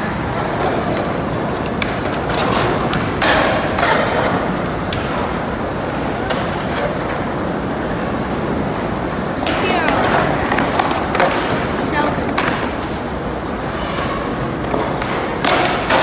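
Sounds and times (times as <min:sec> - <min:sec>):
skateboard clacks and knocks: 0:00.0 - 0:16.0
skateboard wheels rolling on concrete: 0:00.0 - 0:16.0.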